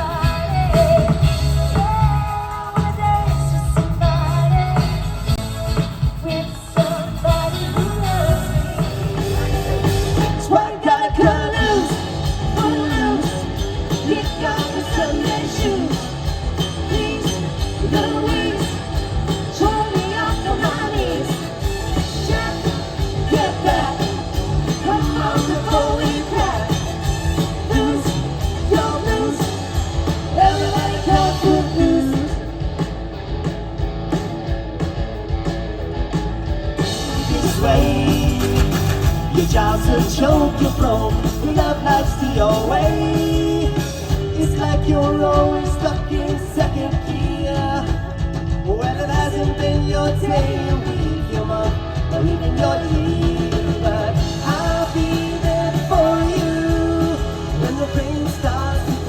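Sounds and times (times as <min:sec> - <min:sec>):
singer: 0:00.0 - 0:33.0, 0:36.8 - 0:59.0
live rock band playing: 0:00.0 - 0:59.0.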